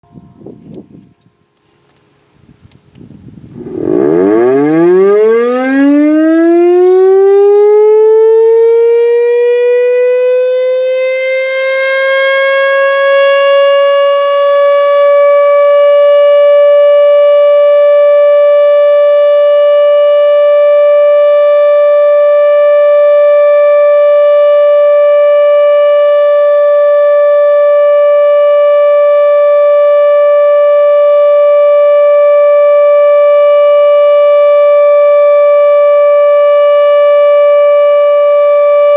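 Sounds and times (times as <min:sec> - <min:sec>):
warning siren wailing: 0:03.5 - 0:38.9.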